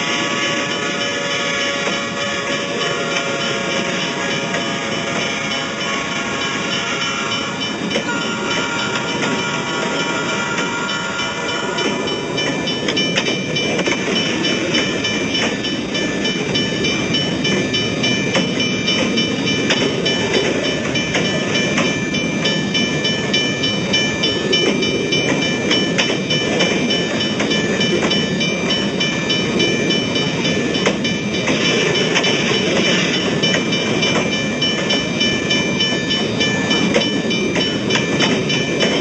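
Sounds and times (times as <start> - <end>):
train rumbling past: 0.0 - 39.0
wheels clicking over rail joints: 6.6 - 39.0.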